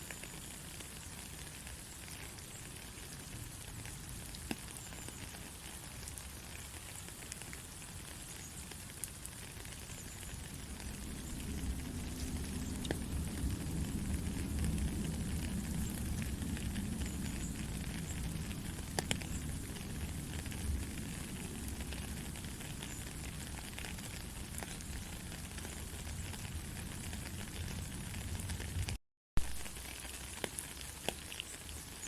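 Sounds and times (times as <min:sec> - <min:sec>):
steady gentle rain: 0:00.0 - 0:32.0.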